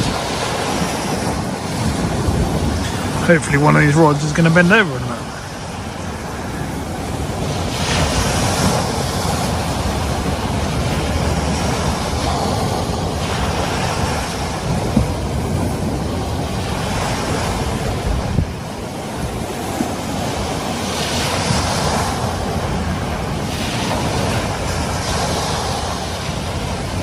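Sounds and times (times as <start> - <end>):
waves washing onto shingle: 0.0 - 27.0
wind rumbling on microphone: 0.0 - 27.0.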